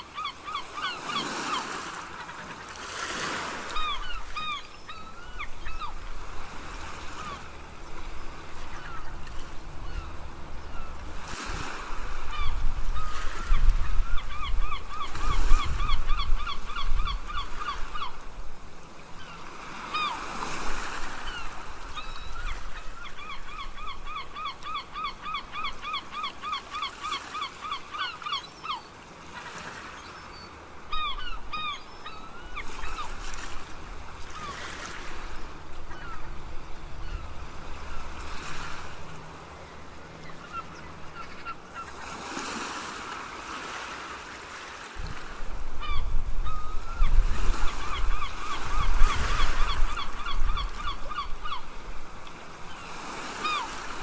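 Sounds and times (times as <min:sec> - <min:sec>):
seagulls calling: 0:00.0 - 0:18.3, 0:19.2 - 0:54.0
ocean waves breaking: 0:00.0 - 0:54.0.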